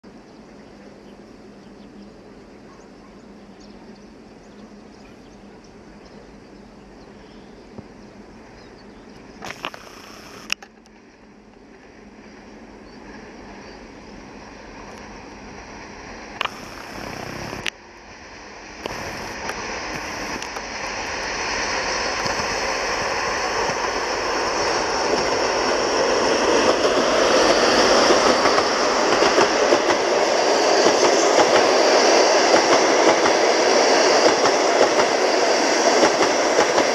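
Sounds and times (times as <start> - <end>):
diesel locomotive approaching: 0.0 - 36.9.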